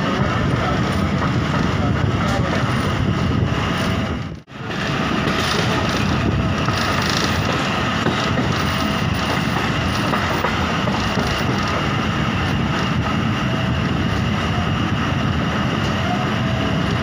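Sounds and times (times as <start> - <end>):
train wheels rumbling on rails: 0.0 - 17.0
wind: 0.0 - 17.0.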